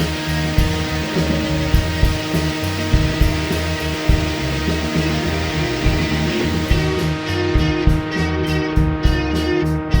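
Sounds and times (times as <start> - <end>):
bass guitar: 0.0 - 10.0
guitars: 0.0 - 10.0
steady drum beat: 0.0 - 10.0.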